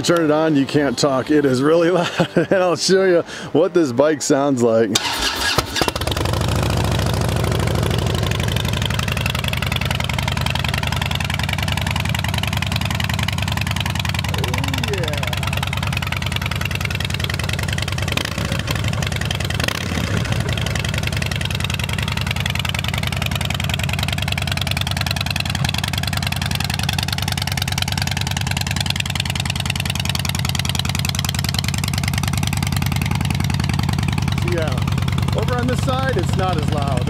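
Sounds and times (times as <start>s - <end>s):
motorcycle engine idling: 5.0s - 37.0s.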